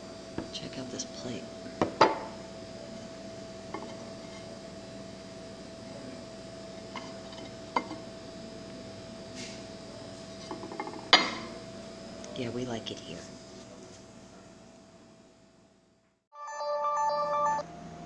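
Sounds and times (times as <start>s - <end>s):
faint room hum: 0.0s - 16.3s.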